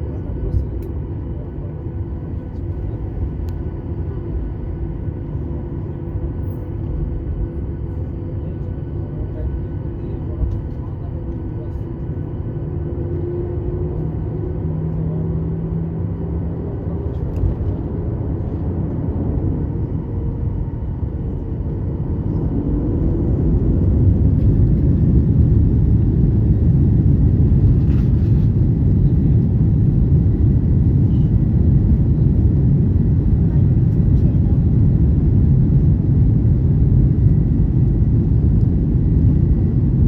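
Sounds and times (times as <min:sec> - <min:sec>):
airplane engines rumbling: 0:00.0 - 0:40.0.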